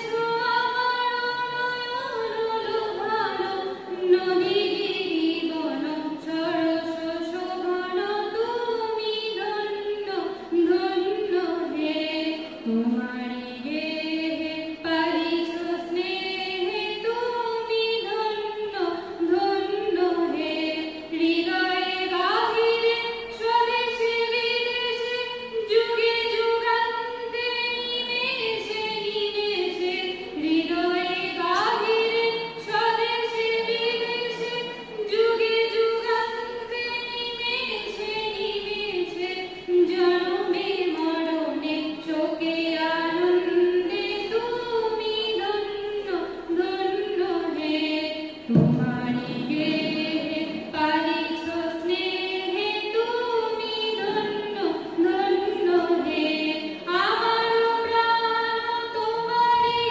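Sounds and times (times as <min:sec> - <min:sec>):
woman singing: 0:00.0 - 0:59.9.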